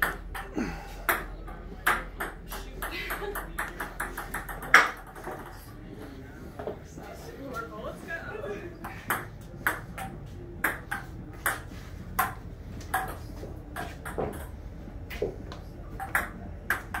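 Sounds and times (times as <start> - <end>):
ping-pong ball hitting paddles: 0.0 - 5.6, 8.8 - 17.0.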